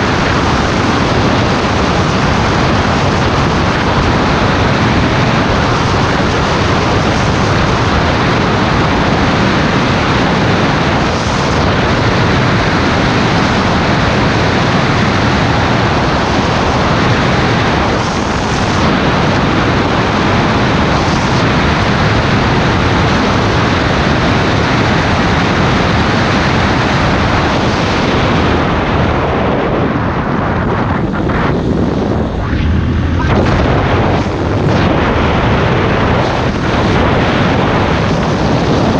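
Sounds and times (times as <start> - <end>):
heavy wind noise on microphone: 0.0 - 38.9.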